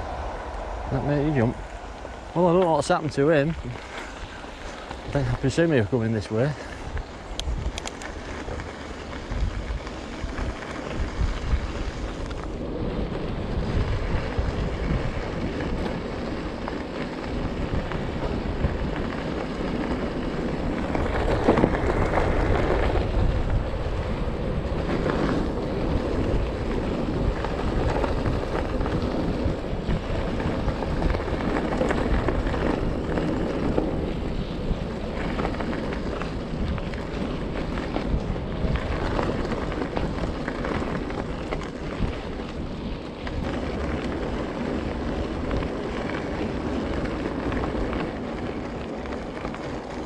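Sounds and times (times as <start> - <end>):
tyres rolling over gravel: 0.0 - 50.0
wind buffeting microphone: 0.0 - 50.0.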